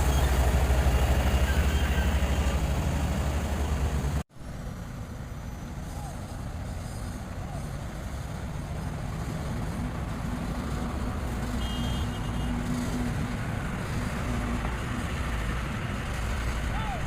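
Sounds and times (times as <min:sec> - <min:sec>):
diesel machinery engines droning: 0:00.0 - 0:17.0.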